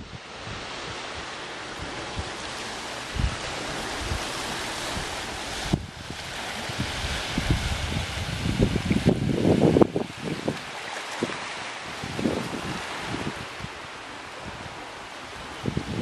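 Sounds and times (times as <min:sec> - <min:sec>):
shoreline water: 0:00.0 - 0:16.0
wind: 0:00.0 - 0:16.0
wind buffeting microphone: 0:00.0 - 0:16.0.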